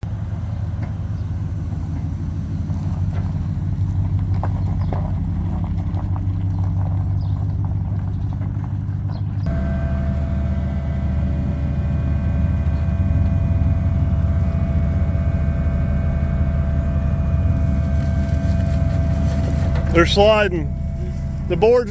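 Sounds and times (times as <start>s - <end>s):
machinery engine rumbling: 0.0s - 21.9s.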